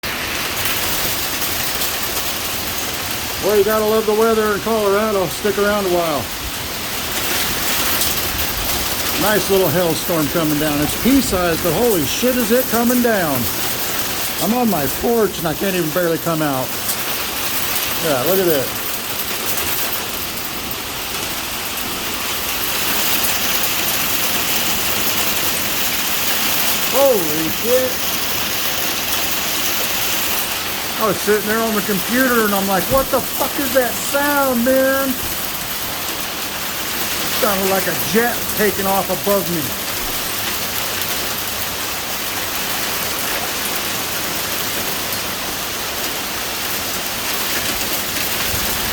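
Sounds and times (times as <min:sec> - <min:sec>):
heavy hail clattering: 0:00.0 - 0:48.9.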